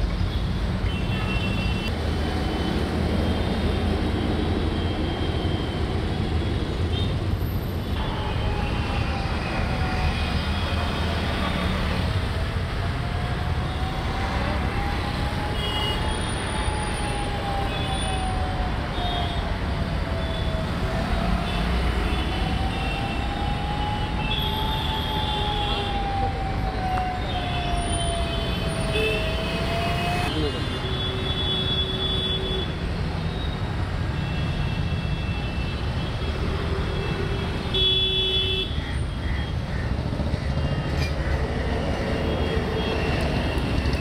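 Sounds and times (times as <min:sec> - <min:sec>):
heavy road traffic: 0:00.0 - 0:44.0.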